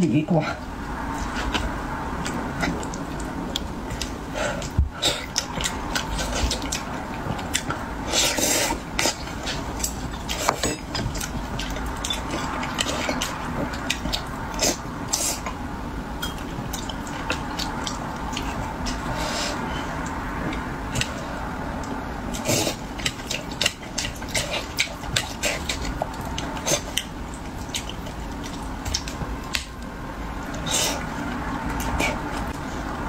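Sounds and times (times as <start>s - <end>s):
wet chewing and slurping: 0.9s - 15.6s, 16.2s - 33.0s.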